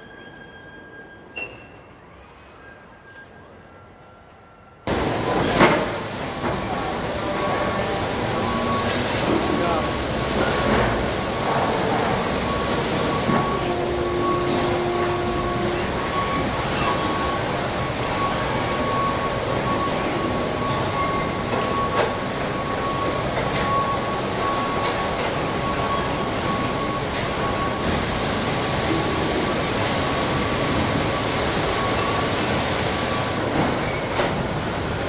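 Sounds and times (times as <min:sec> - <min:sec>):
assembly line machinery din: 0:04.9 - 0:35.0.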